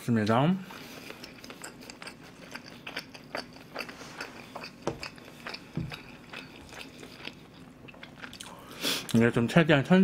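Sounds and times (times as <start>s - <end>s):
person chewing crunchily: 0.7s - 9.2s.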